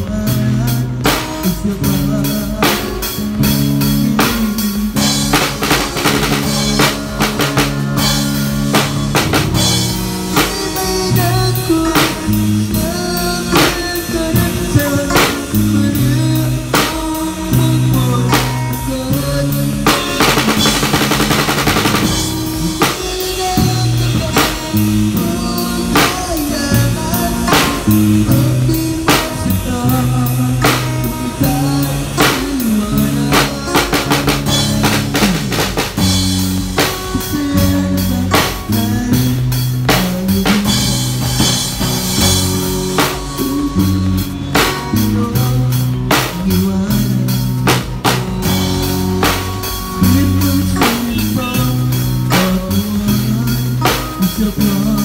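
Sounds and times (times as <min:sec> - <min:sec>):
bass line: 0:00.0 - 0:55.0
drum kit playing beat: 0:00.0 - 0:55.0
guitar: 0:00.0 - 0:55.0.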